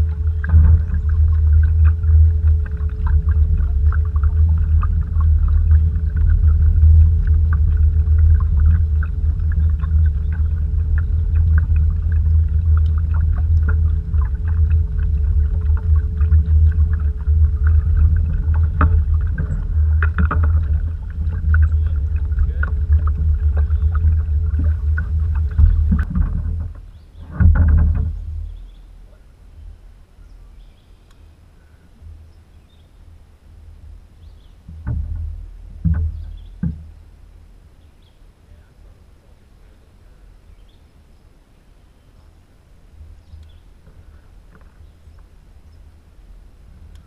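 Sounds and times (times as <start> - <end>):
low rumble: 0.0 - 37.7
faint hum: 0.0 - 47.0.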